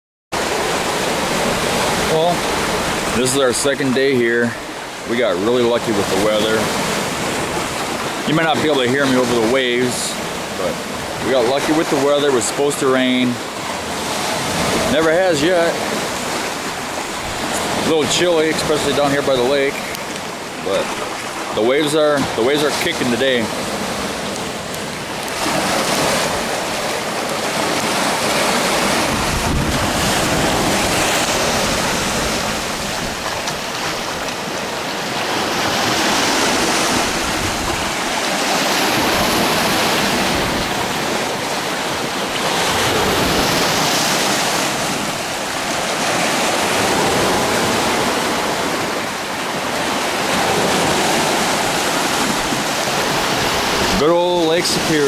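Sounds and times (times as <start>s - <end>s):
waves breaking on shore: 0.4s - 55.0s
wind gusting on microphone: 4.7s - 49.0s.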